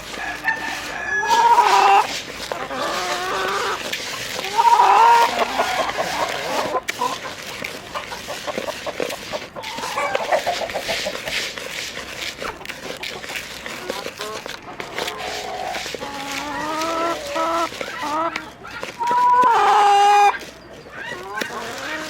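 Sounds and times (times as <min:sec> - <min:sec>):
chickens clucking and calling: 0:00.0 - 0:22.0.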